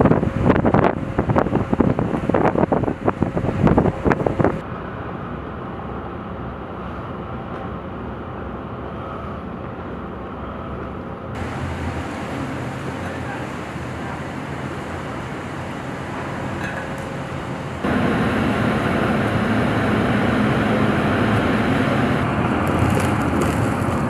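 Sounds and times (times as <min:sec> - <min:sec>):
harbour noise: 0:00.0 - 0:24.0
wind: 0:00.0 - 0:24.0.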